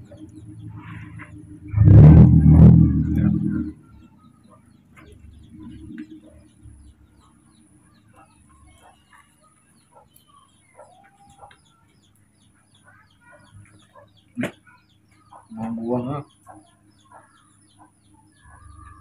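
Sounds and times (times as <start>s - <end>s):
animal chirps and clucks: 0.0s - 19.0s.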